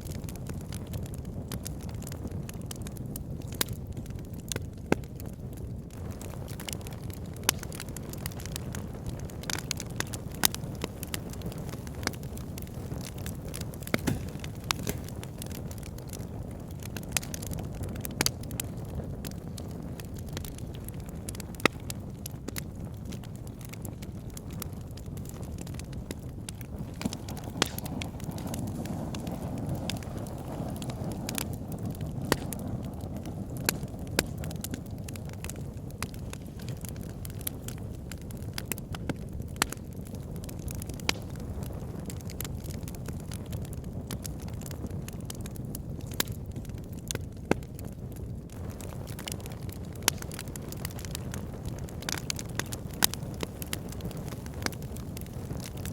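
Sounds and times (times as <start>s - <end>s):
low rush of flames: 0.0s - 55.9s
wood fire crackling: 0.0s - 55.9s.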